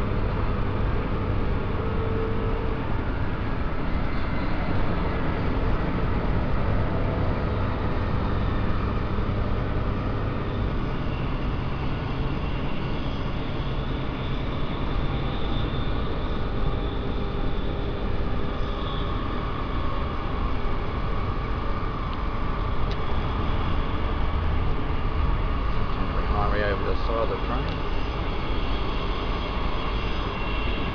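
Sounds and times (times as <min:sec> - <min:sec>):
faint high whine: 0:00.0 - 0:30.9.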